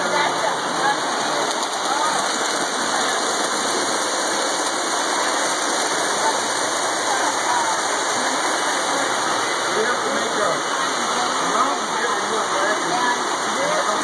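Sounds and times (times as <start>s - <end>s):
indistinct voices: 0.0s - 14.0s
model trains rumbling on track: 0.0s - 14.0s.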